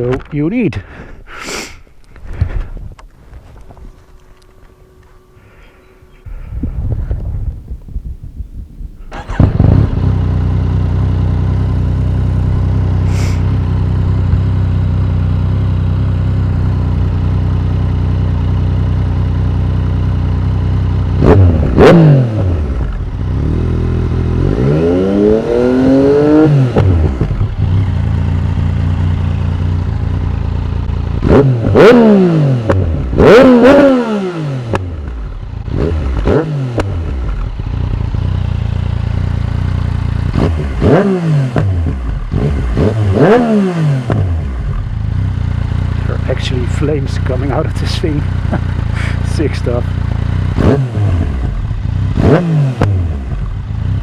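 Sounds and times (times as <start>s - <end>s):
motorcycle engine idling and revving: 6.0s - 54.0s.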